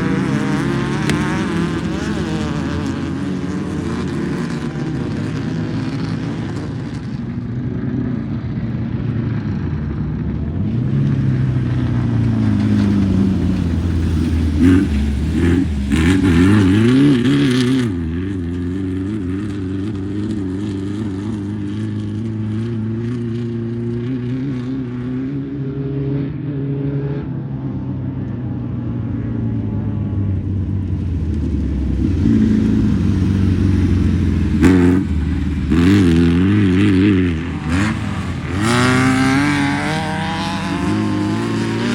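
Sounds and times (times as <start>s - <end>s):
race car engine revving: 0.0s - 7.4s, 11.2s - 27.0s, 30.1s - 41.9s.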